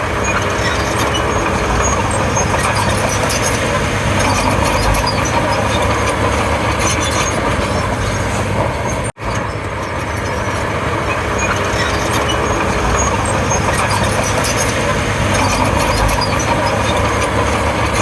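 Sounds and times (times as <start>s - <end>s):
bulldozer diesel engine running: 0.0s - 18.0s
steel tracks clanking and squeaking: 0.0s - 18.0s.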